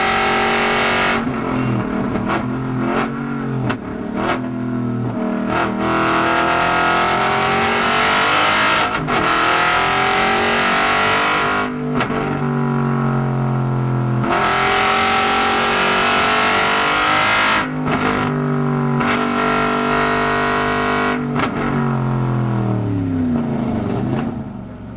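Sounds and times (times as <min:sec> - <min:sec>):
car engine accelerating: 0:00.0 - 0:24.9.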